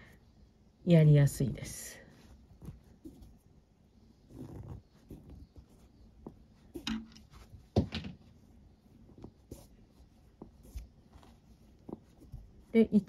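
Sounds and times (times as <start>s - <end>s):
cord rustling and scraping: 2.2s - 12.9s.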